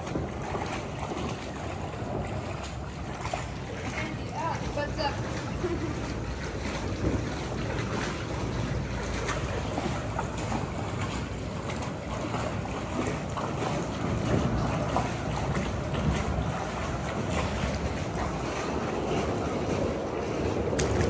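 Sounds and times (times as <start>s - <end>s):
river water flowing and sloshing: 0.0s - 21.0s
small splashes and knocks: 0.0s - 21.0s.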